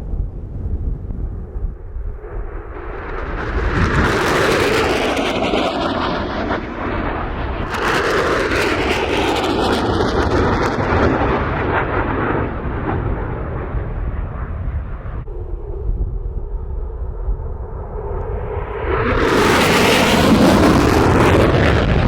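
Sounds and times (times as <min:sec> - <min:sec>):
fighter jets flying past: 0:00.0 - 0:22.0.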